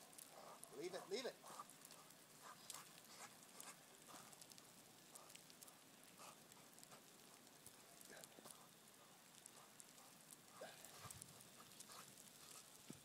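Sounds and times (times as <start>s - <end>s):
faint soft crackles: 0.0s - 13.0s.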